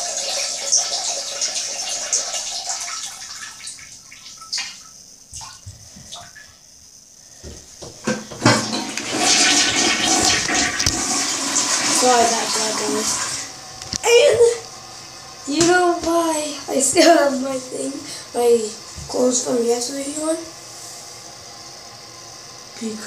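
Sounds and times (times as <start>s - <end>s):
toilet flushing: 0.0s - 6.4s, 7.4s - 23.0s.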